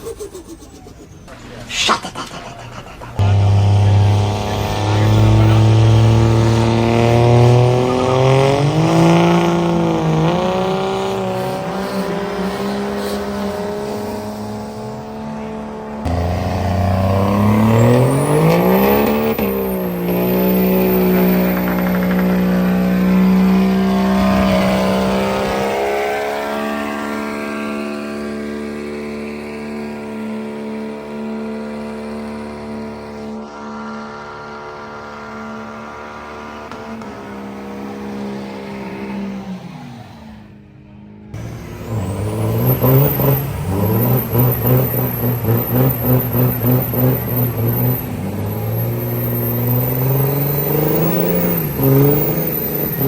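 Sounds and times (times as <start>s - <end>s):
vehicle engine revving: 1.2s - 53.0s.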